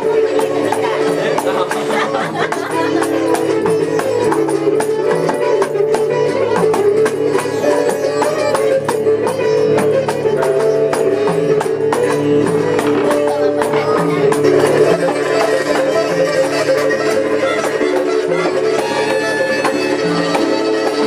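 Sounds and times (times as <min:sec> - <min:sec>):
hand percussion rhythm: 0:00.0 - 0:21.0
sitar music: 0:00.0 - 0:21.0.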